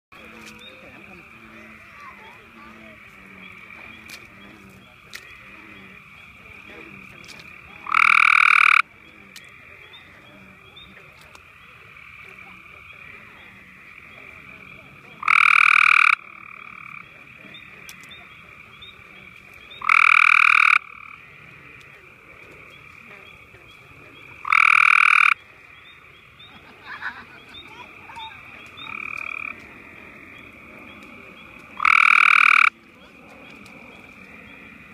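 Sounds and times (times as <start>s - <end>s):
frog trilling: 0.2s - 34.9s.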